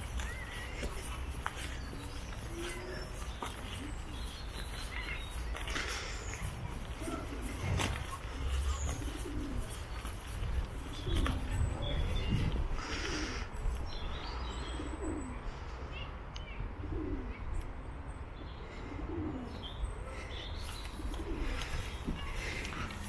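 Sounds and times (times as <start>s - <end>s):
pigeons cooing: 0.0s - 13.5s, 14.4s - 15.4s, 16.7s - 17.5s, 18.6s - 23.0s
small birds chirping: 0.0s - 23.0s.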